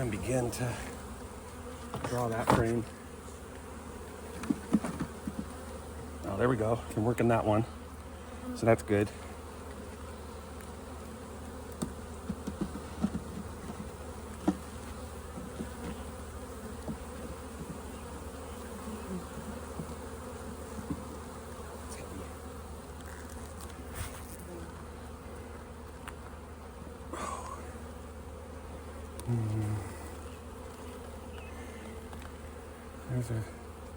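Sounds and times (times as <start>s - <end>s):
bees buzzing: 0.0s - 33.9s.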